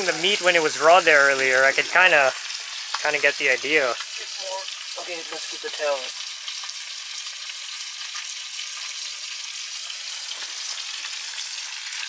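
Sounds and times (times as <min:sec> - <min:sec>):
fish frying in butter: 0:00.0 - 0:12.0.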